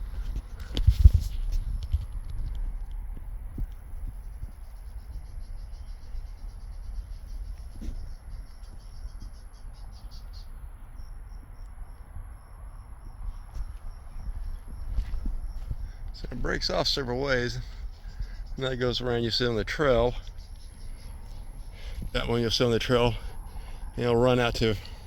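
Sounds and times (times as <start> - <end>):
insects chirping: 0.0 - 25.0
steady high insect buzz: 3.5 - 25.0.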